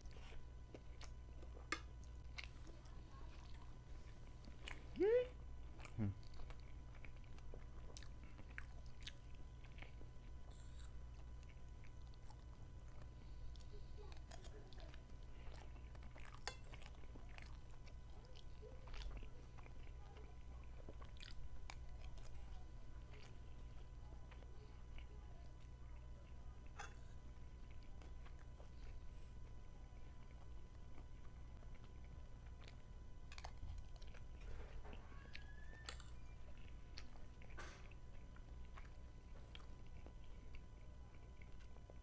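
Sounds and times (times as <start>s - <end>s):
person chewing food: 0.0s - 42.0s
steady low hum: 0.0s - 42.0s.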